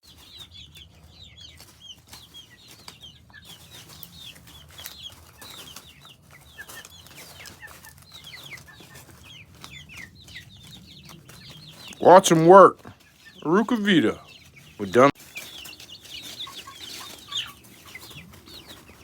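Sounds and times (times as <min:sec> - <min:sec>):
chickens peeping and chirping: 0:00.0 - 0:19.0.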